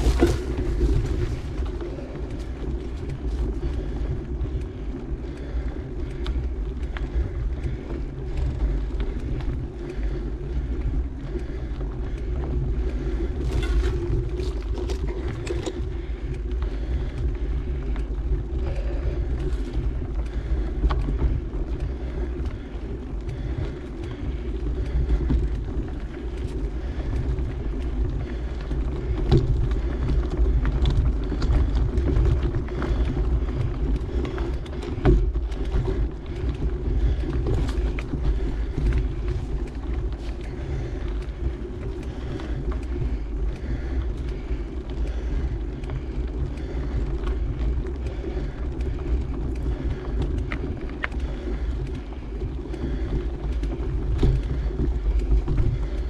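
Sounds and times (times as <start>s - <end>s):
bike clicks and rattles: 0.0s - 56.0s
tyres rolling on dirt: 0.0s - 56.0s
wind buffeting microphone: 0.0s - 56.0s.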